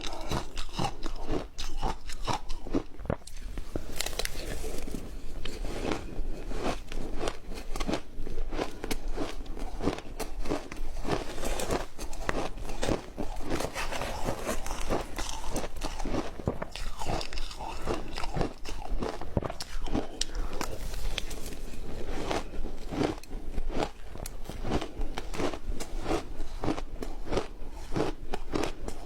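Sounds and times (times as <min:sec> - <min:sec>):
ice crunching while chewing: 0:00.0 - 0:29.0.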